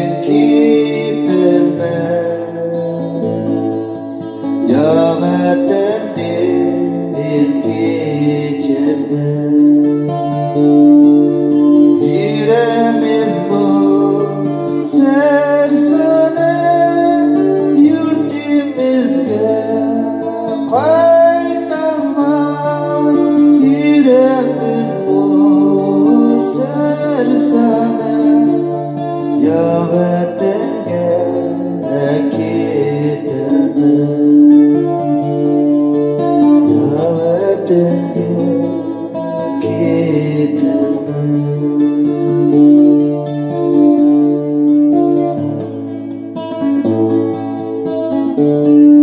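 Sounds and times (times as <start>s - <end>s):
person singing: 0.0s - 45.7s
fingerpicked acoustic guitar: 0.0s - 49.0s.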